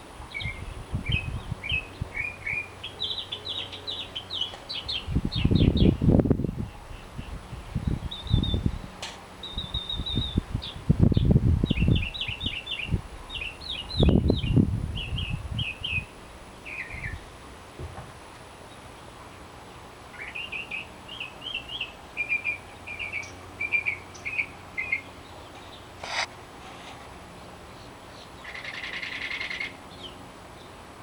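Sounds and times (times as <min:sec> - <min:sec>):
songbirds singing: 0:00.2 - 0:17.4, 0:18.3 - 0:26.3, 0:27.3 - 0:31.0.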